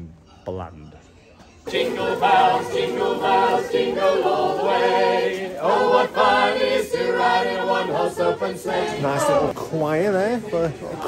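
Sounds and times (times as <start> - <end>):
choir singing: 1.6 - 11.0.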